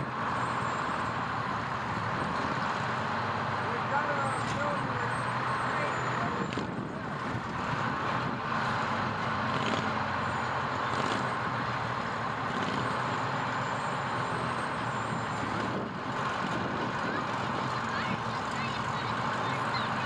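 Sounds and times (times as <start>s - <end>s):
fire truck engine running: 0.0s - 20.0s
road noise: 0.0s - 20.0s.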